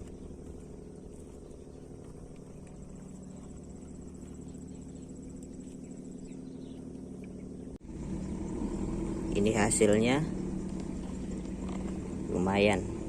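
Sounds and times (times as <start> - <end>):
insect pulsing trill: 0.0 - 13.0
steady low hum: 0.0 - 13.0.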